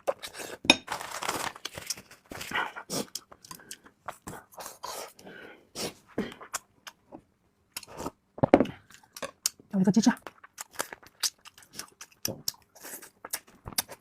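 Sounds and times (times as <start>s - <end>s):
person chewing and smacking: 1.4s - 5.2s, 6.3s - 14.0s.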